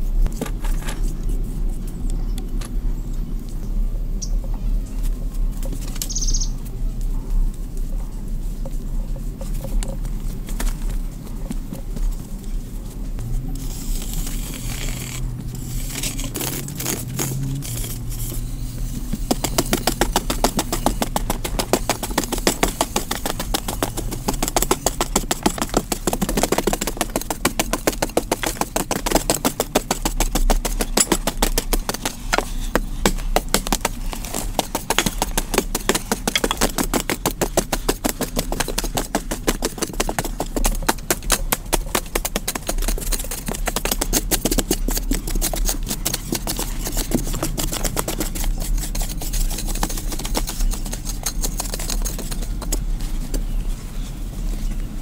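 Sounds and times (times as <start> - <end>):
hoes chopping and scraping soil: 0.0 - 1.4, 9.3 - 53.8.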